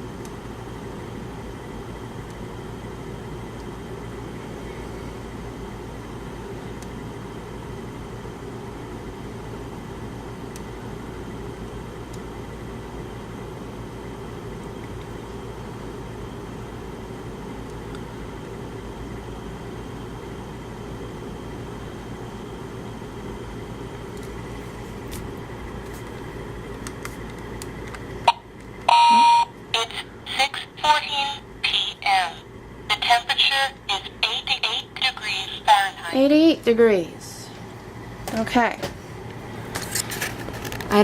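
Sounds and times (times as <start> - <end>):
air conditioner humming: 0.0 - 41.0.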